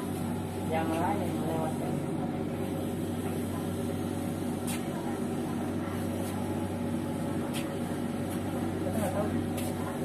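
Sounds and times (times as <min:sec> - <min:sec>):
train coach ventilation drone: 0:00.0 - 0:10.0.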